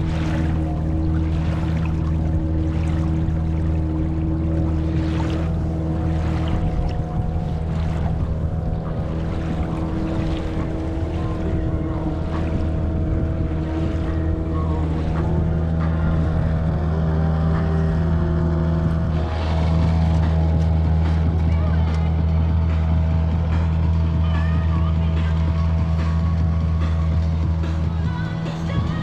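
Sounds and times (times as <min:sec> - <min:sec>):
boat engine humming: 0:00.0 - 0:29.0.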